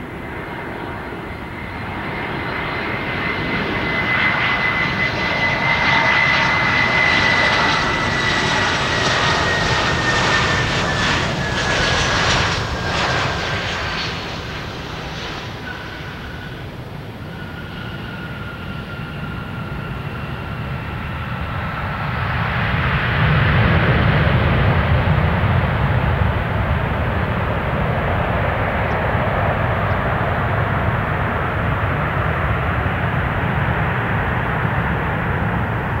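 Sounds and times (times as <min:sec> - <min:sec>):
jet engine roar: 0:00.0 - 0:36.0
jet engine whine: 0:00.0 - 0:36.0.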